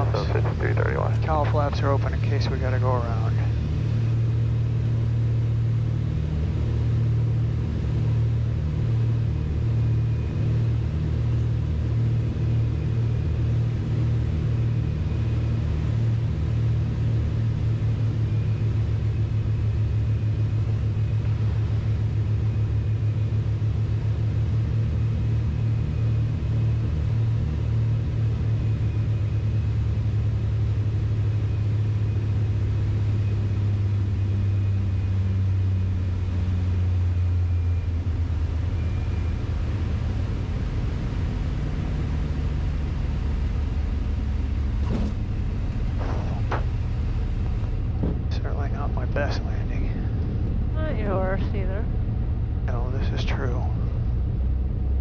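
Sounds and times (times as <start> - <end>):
twin propeller engines droning: 0.0 - 55.0.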